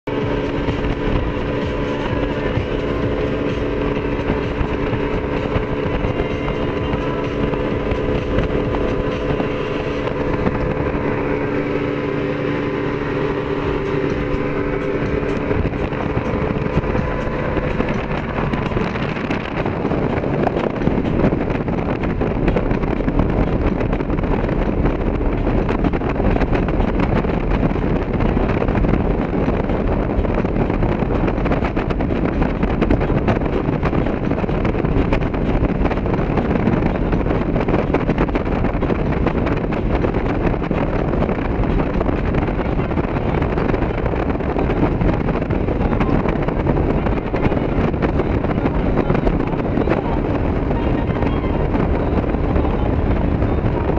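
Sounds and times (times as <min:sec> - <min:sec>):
outboard engine hum: 0:00.0 - 0:53.9
rushing water: 0:00.0 - 0:53.9
wind on microphone: 0:00.0 - 0:53.9.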